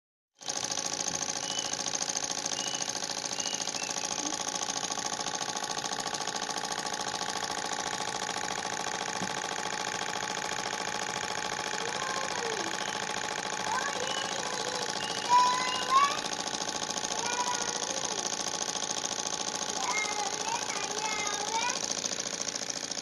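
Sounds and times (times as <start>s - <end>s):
small engine mechanical clatter: 0.4s - 23.0s.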